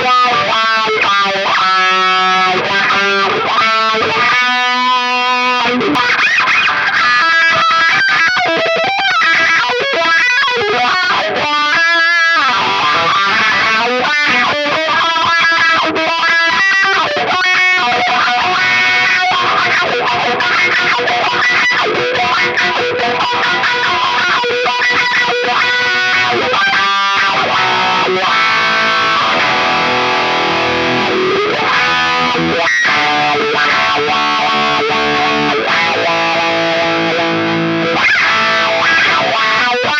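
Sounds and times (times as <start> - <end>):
distorted electric guitar with wah: 0.0 - 39.9.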